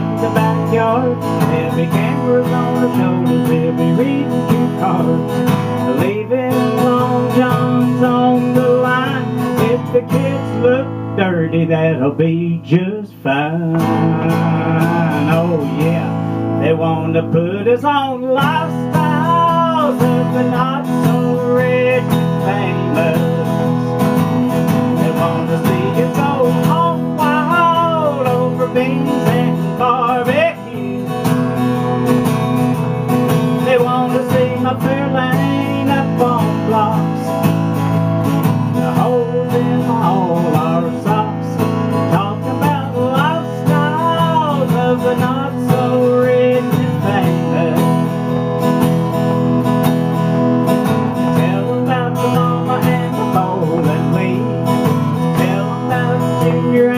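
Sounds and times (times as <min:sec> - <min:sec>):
acoustic guitar strumming: 0:00.0 - 0:56.9
man singing: 0:00.0 - 0:56.9.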